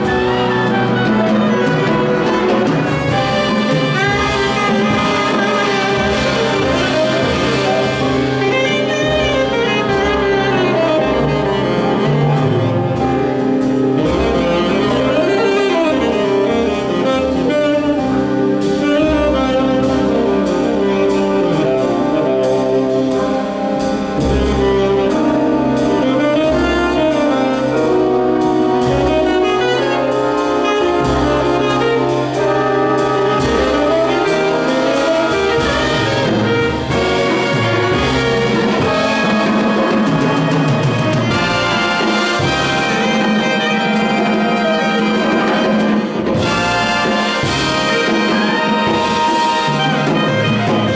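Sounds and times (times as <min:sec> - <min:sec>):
jazz big band playing: 0:00.0 - 0:50.9
tenor saxophone: 0:00.0 - 0:50.9.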